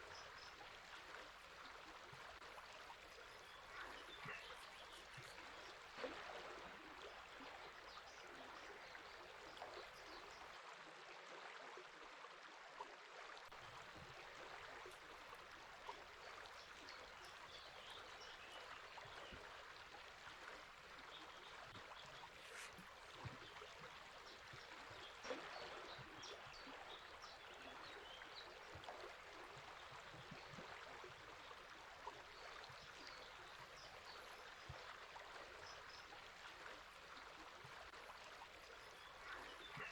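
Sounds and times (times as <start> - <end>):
river water flowing: 0.0 - 10.6, 13.3 - 39.9.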